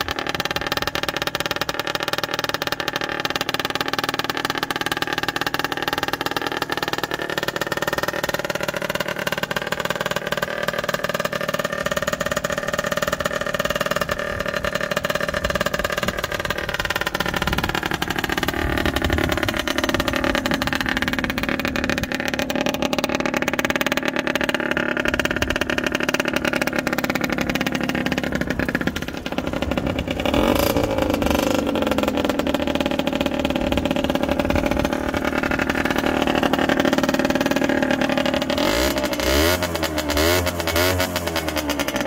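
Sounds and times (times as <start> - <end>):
two-stroke engine idling: 0.0 - 42.0.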